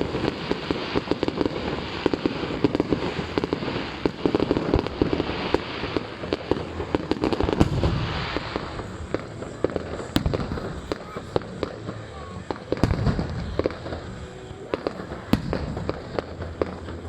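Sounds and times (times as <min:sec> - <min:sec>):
firework bang: 0:00.0 - 0:17.0
fireworks crackling: 0:00.0 - 0:17.0.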